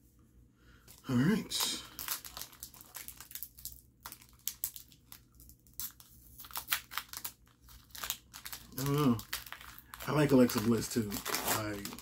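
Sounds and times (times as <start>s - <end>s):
trading cards crinkling and snapping: 0.8s - 12.0s.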